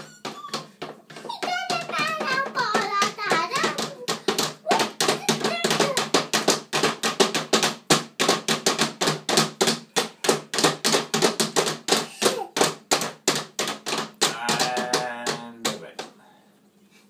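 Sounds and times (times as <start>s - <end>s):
toy figures knocking on wood: 0.0s - 16.2s.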